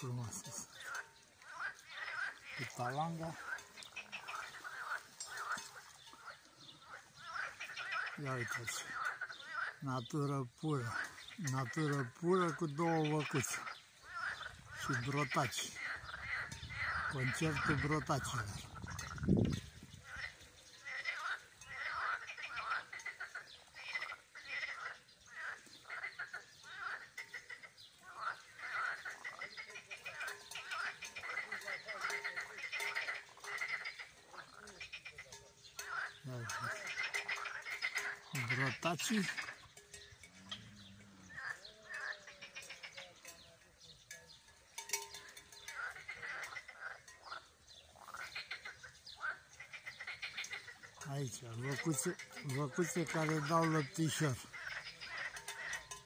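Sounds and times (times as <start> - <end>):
tree frogs croaking: 0.0 - 56.0.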